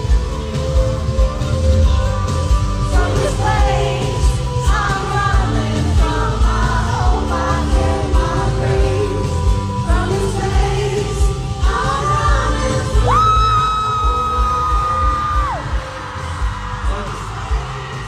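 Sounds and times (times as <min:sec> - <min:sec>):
live pop music with beat: 0:00.0 - 0:18.0.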